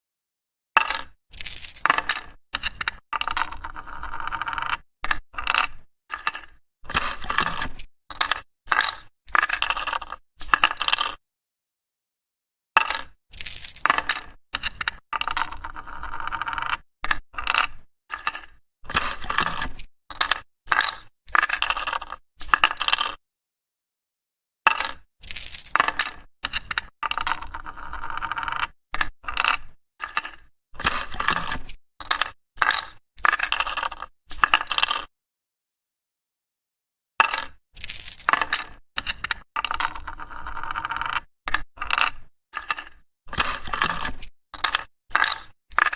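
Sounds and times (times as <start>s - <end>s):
coins clinking on hard surface: 0.8s - 11.2s, 12.8s - 23.1s, 24.7s - 35.1s, 37.2s - 45.9s.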